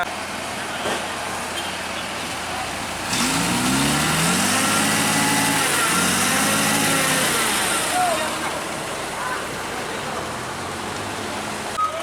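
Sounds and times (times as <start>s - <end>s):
truck engine revving: 0.0s - 11.8s.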